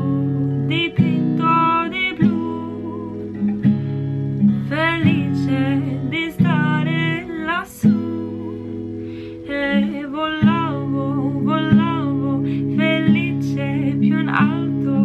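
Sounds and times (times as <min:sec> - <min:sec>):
acoustic guitar strumming chords: 0:00.0 - 0:15.0
woman singing: 0:00.0 - 0:15.0.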